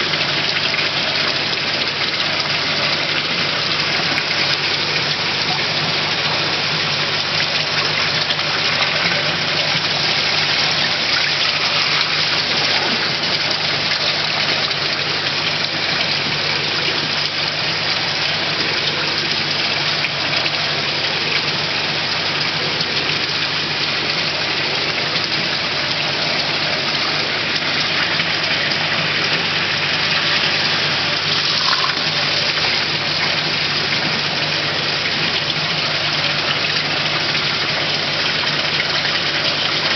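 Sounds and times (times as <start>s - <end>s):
churning aerated water: 0.0s - 39.9s.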